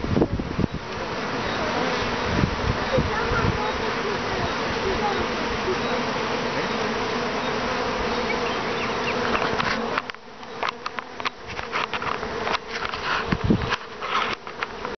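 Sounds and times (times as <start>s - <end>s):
honeybees buzzing: 0.0s - 14.9s.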